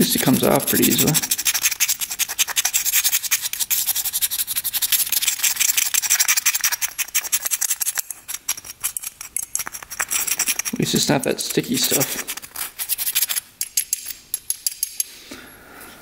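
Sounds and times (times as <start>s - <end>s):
scraping strokes: 0.0s - 14.0s.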